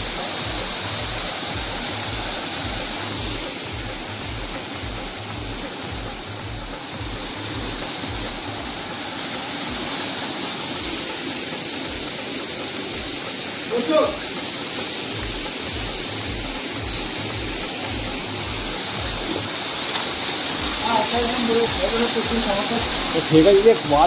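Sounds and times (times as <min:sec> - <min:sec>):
background music beat: 0:00.0 - 0:24.0
mountain stream rushing: 0:00.0 - 0:24.0.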